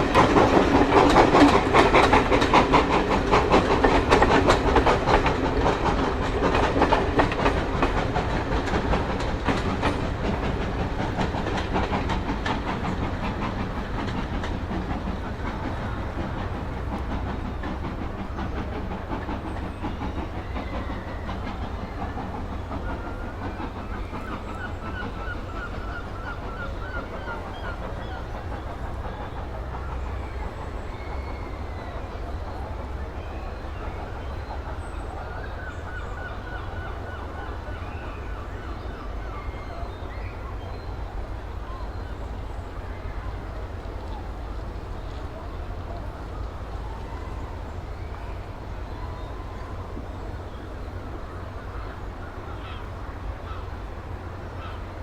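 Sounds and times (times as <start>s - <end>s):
steam locomotive chuffing: 0.0s - 55.0s
wheels clattering on rails: 0.0s - 55.0s.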